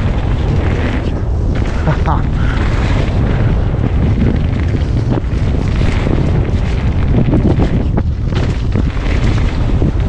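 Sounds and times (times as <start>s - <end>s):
bike rattling and knocking: 0.0s - 10.0s
tyres rumbling on rough trail: 0.0s - 10.0s
wind buffeting microphone: 0.0s - 10.0s.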